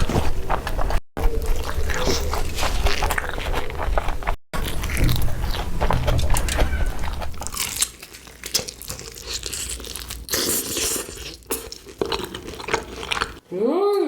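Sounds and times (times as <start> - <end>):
chewing crunchy food: 0.0 - 13.4.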